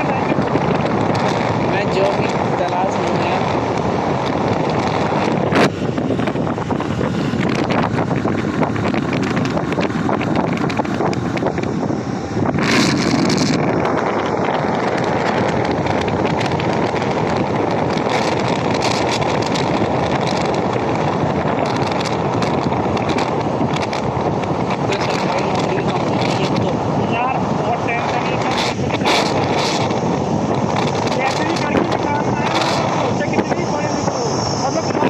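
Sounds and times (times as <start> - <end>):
road and traffic noise: 0.0 - 35.0
wind rushing over microphone: 0.0 - 35.0.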